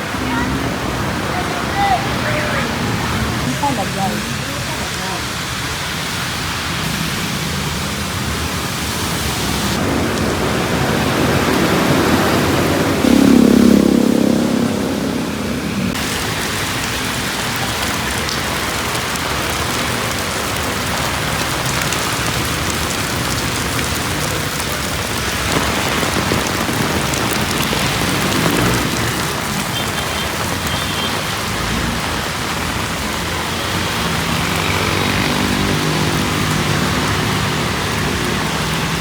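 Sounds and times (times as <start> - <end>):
rain on a street: 0.0 - 39.0
traffic: 0.0 - 39.0
engine hum: 6.6 - 39.0.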